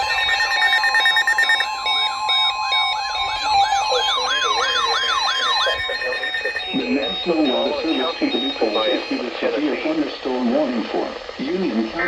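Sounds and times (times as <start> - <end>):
electronic sirens yelping: 0.0 - 10.7
steady alarm tones: 0.0 - 11.4.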